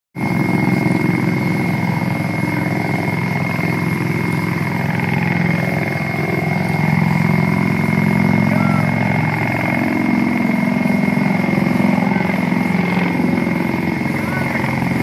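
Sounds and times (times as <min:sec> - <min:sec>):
aircraft engines whining: 0:00.2 - 0:15.0
rotor drone with rapid chop: 0:00.2 - 0:15.0.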